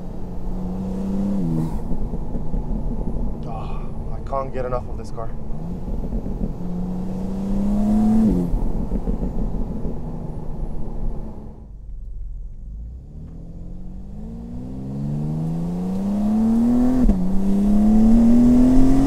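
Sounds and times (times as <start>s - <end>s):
car engine accelerating: 0.0s - 19.0s
gear change: 0.0s - 19.0s.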